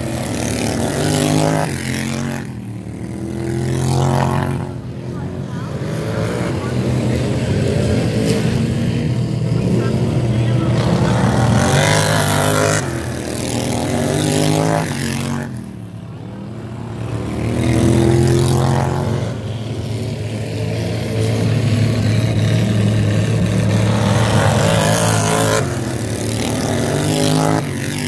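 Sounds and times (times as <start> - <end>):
racing lawn mower engines: 0.0 - 28.0.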